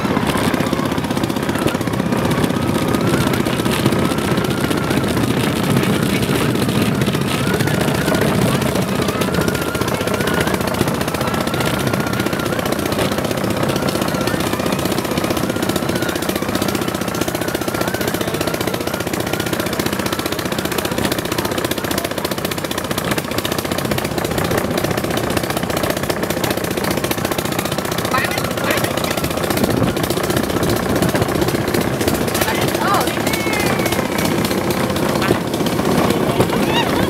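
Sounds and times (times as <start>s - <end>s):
small engine running: 0.0s - 37.0s
wheels clattering on track: 0.0s - 37.0s.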